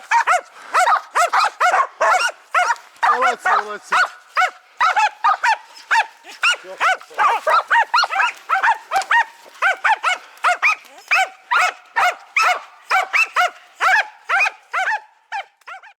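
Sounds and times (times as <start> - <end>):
dogs barking high-pitched: 0.0 - 16.0.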